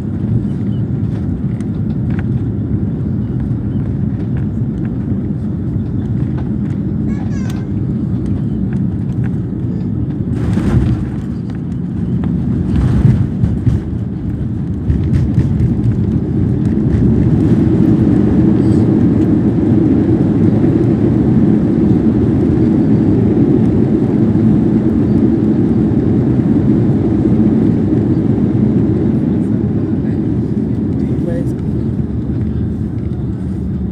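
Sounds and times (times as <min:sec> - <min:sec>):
cabin engine rumble: 0:00.0 - 0:33.9.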